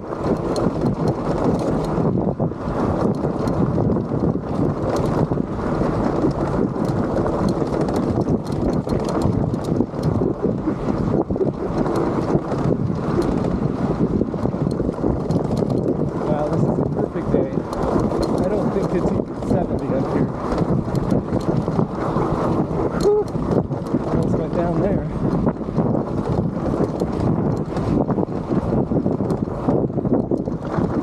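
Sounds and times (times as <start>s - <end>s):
bike tyres rumbling over rocks: 0.0s - 31.0s
rocks and bike rattling: 0.0s - 31.0s
wind buffeting microphone: 0.0s - 31.0s.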